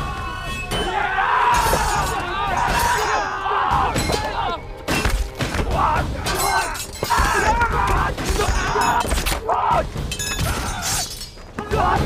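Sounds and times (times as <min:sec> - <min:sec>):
men shouting and grunting: 0:00.0 - 0:04.9, 0:05.5 - 0:12.0
weapons clashing: 0:00.5 - 0:12.0.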